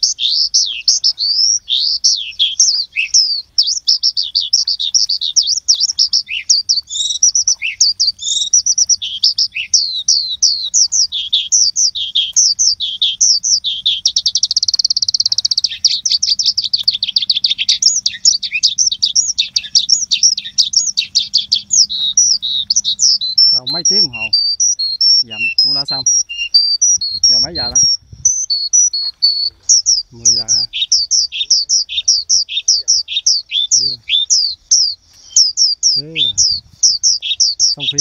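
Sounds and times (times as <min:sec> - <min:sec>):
birds chirping: 0:00.0 - 0:38.0
fast bird trill: 0:00.0 - 0:38.0.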